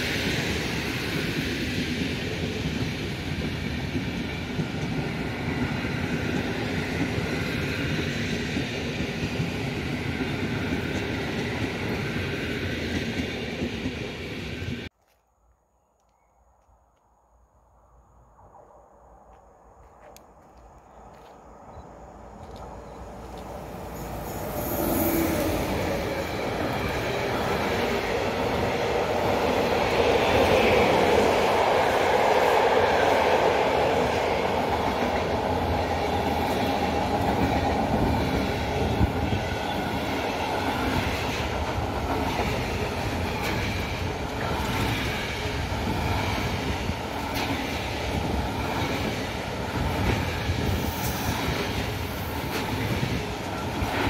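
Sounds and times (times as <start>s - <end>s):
electric locomotive passing: 0.0s - 14.9s, 17.8s - 54.0s.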